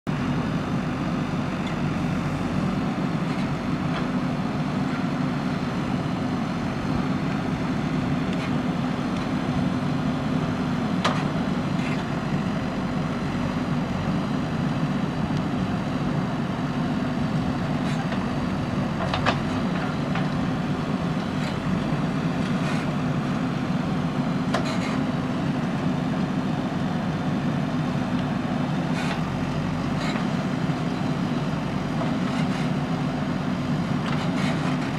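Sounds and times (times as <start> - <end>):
diesel engine under load: 0.1 - 34.9.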